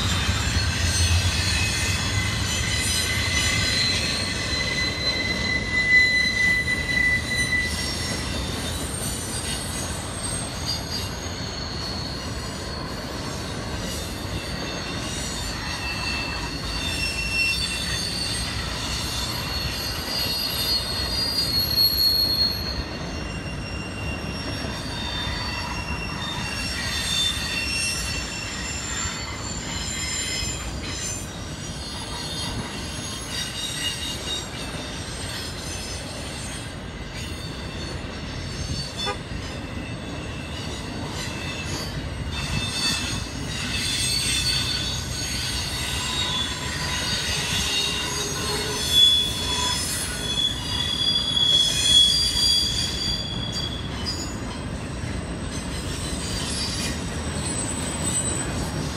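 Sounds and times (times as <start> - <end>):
freight train rumble: 0.0 - 58.9
steel wheels squealing on rail: 0.0 - 58.9.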